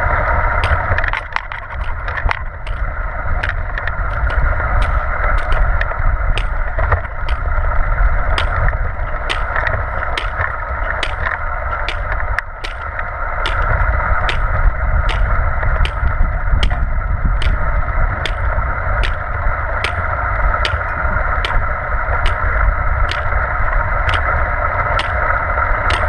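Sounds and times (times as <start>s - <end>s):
wheelchair rolling on asphalt: 0.0s - 26.0s
hiking poles clicking on pavement: 0.5s - 26.0s.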